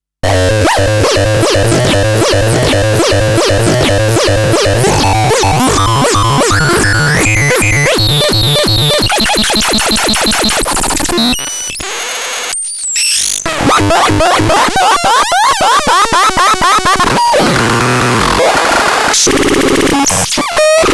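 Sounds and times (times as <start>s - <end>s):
electronic synthesizer tones: 0.2s - 20.9s.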